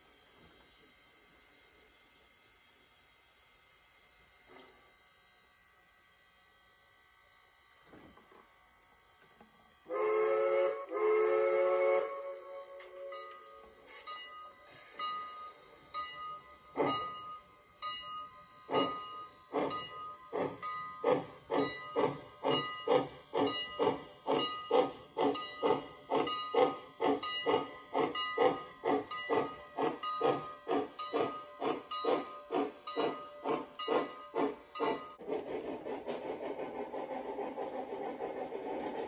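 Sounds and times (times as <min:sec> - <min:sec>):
model steam locomotive chuffs: 0:00.0 - 0:39.0.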